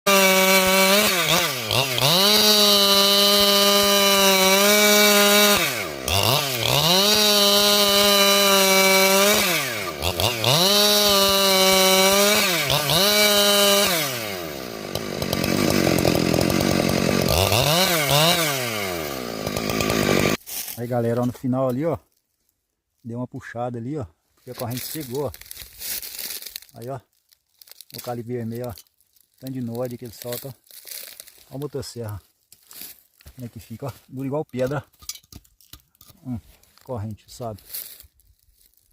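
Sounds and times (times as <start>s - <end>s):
chainsaw sawing through wood: 0.1s - 21.2s, 24.4s - 34.9s, 36.0s - 38.9s.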